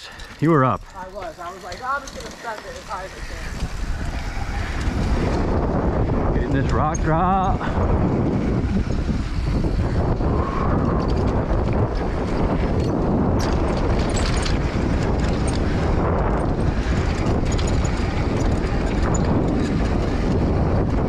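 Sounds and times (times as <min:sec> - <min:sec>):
bike clicks and rattles: 0:00.0 - 0:21.0
bike tyres rolling on dirt: 0:00.0 - 0:21.0
wind over microphone: 0:00.0 - 0:21.0.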